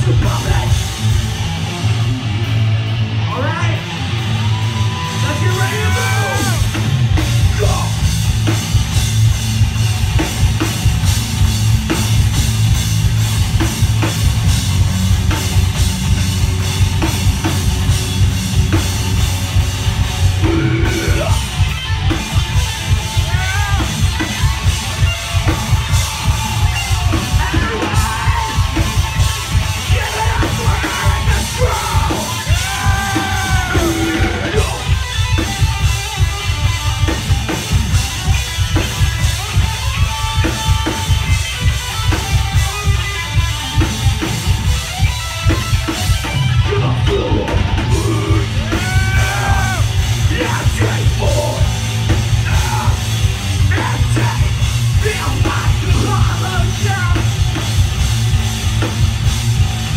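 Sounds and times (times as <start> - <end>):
yelled sung vocals: 0.0 - 11.1, 12.1 - 44.7, 45.9 - 59.9
drum kit pounding: 0.0 - 59.9
electric guitar: 0.0 - 59.9.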